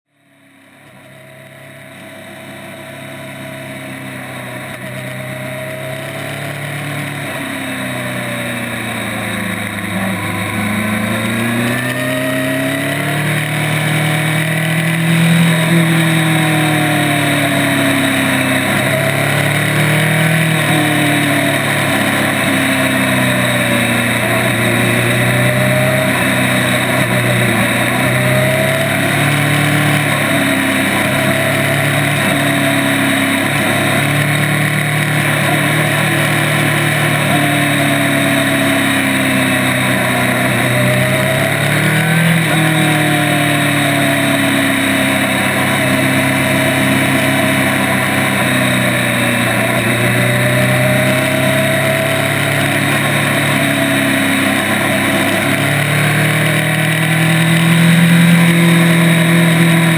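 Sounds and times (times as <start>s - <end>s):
wind and road noise: 0.1s - 59.9s
motorcycle engine revving: 0.2s - 59.9s.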